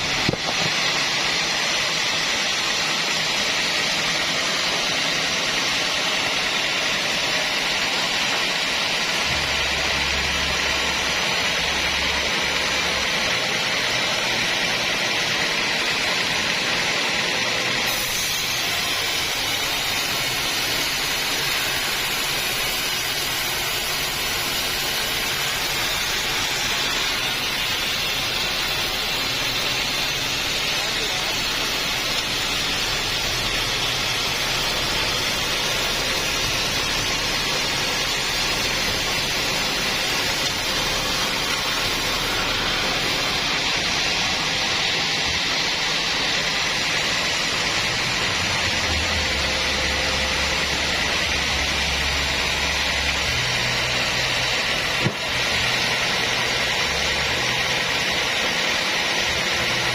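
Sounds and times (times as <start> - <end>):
bandsaw cutting log: 0.0 - 59.9.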